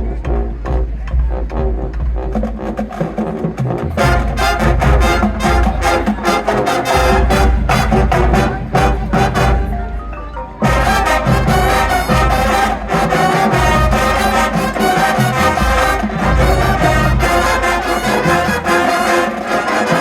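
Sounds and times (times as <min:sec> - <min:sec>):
drumline hits: 0:00.0 - 0:20.0
marching band playing: 0:00.0 - 0:20.0
mallet percussion: 0:04.0 - 0:20.0.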